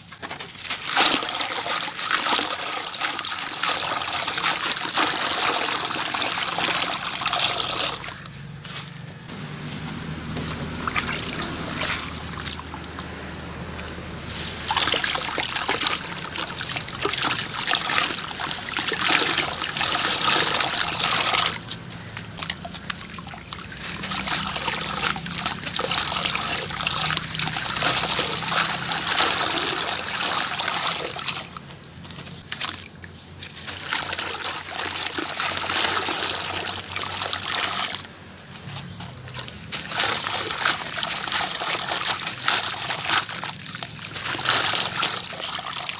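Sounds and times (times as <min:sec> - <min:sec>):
water trickling and splashing: 0:00.0 - 0:08.5, 0:09.2 - 0:45.9.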